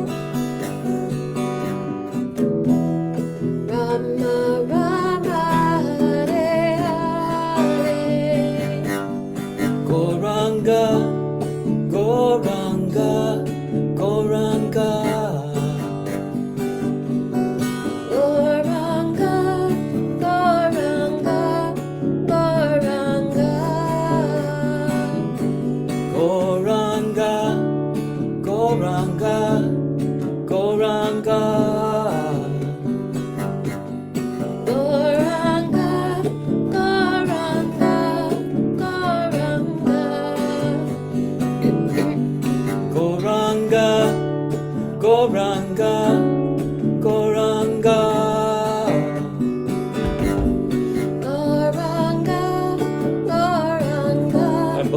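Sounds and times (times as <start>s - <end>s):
plucked strings: 0.0s - 54.9s
person singing: 3.1s - 16.1s, 18.0s - 27.7s, 28.4s - 29.8s, 30.5s - 32.9s, 34.7s - 54.9s.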